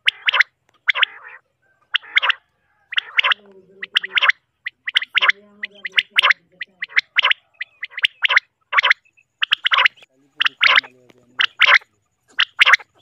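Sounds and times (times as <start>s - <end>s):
quail calling: 0.0s - 13.0s.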